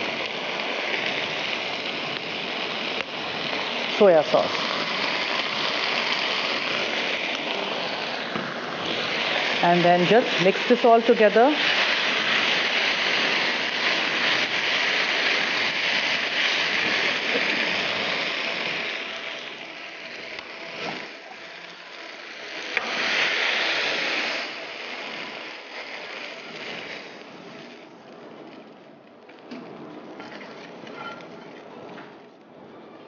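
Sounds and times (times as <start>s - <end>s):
food sizzling in hot pan: 0.0s - 28.6s, 30.0s - 31.6s.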